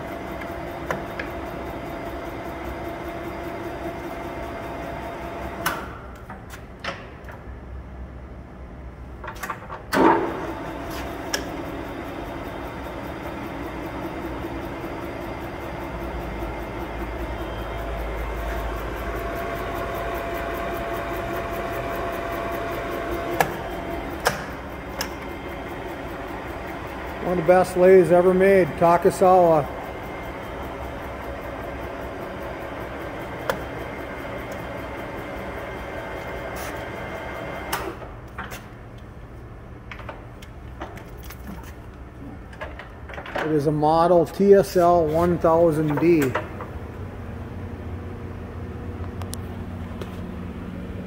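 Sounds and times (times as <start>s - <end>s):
lathe running with hum: 0.0s - 6.1s, 10.0s - 39.8s, 42.9s - 51.0s.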